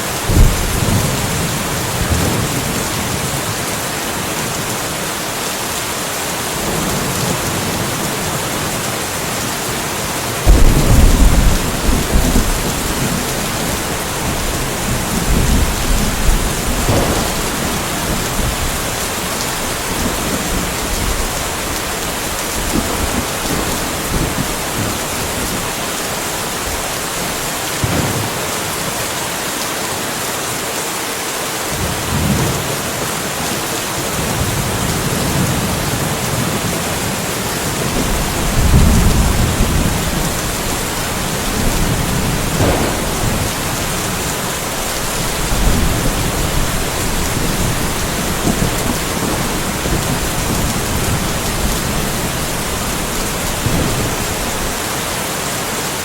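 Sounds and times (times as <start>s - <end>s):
steady rain: 0.0s - 56.0s
thunder rumbling: 0.1s - 3.6s, 6.6s - 28.8s, 34.2s - 54.9s.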